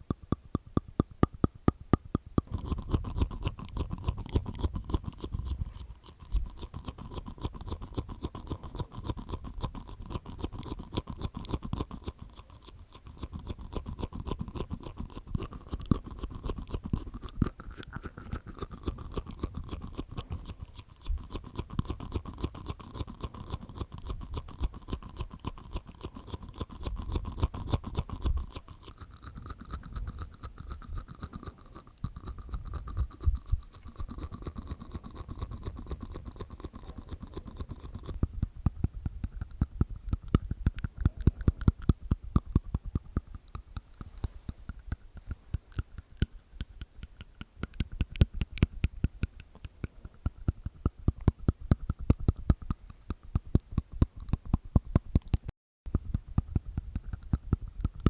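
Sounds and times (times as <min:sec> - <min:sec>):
wet mouth clicks and pops: 0:00.0 - 0:58.0.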